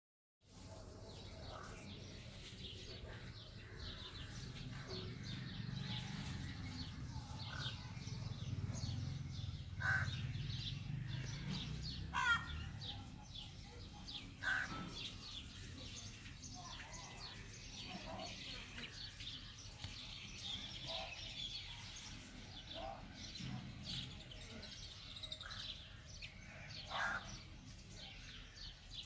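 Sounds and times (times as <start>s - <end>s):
small birds chirping: 0.5s - 29.0s
harsh bird calls: 1.3s - 29.0s.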